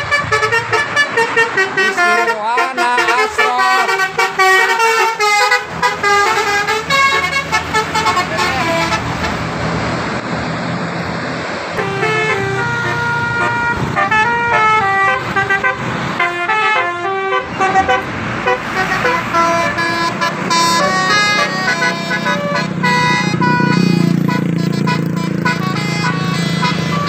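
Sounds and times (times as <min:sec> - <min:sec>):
multi-tone bus horn tune: 0:00.0 - 0:09.6, 0:11.7 - 0:27.0
bus engine humming: 0:00.0 - 0:27.0.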